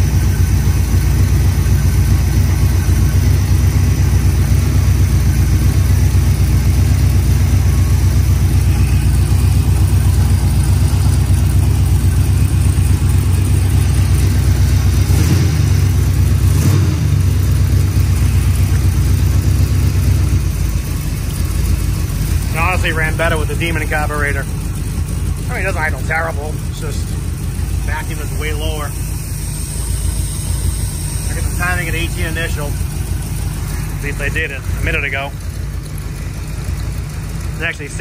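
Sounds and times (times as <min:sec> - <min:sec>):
engine idling: 0:00.0 - 0:38.0.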